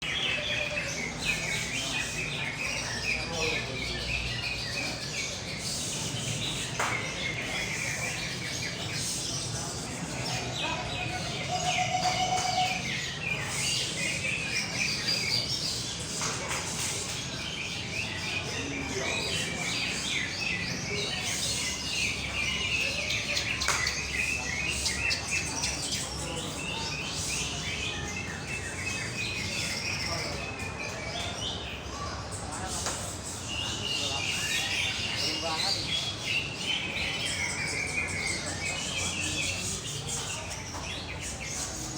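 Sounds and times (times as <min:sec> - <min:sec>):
birds singing: 0:00.0 - 0:41.9
murmur of voices: 0:00.0 - 0:41.9.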